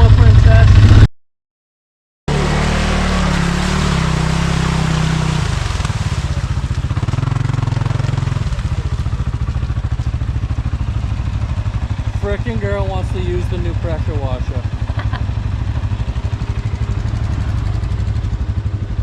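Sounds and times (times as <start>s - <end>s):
atv engine running: 0.0s - 1.0s, 2.3s - 19.0s.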